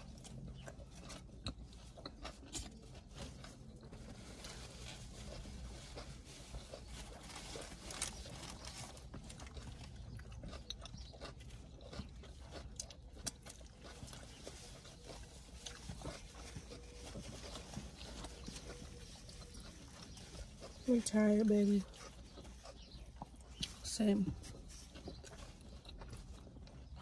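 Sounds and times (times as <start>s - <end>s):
chewing and biting sandwich: 0.0s - 27.0s.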